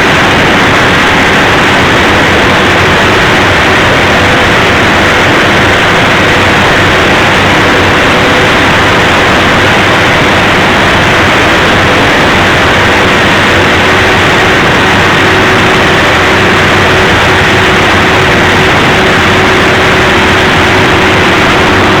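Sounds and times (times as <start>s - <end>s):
diesel generator engine running: 0.0s - 22.0s.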